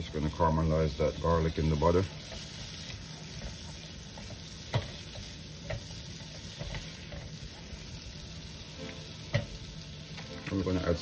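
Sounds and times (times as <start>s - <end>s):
garlic sizzling in butter: 0.0s - 11.0s.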